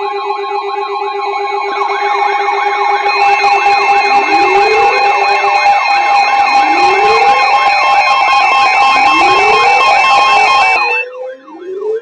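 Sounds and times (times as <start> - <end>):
rising siren sweep: 0.0 - 12.0
warbling siren tones: 0.0 - 12.0
steady beeping alert tones: 1.4 - 12.0.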